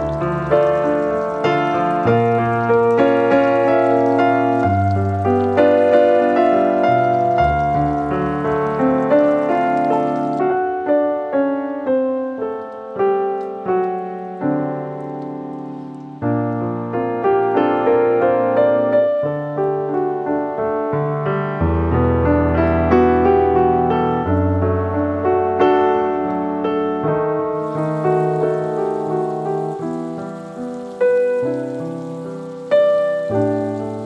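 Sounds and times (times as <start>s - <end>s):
slow piano music: 0.0s - 34.0s.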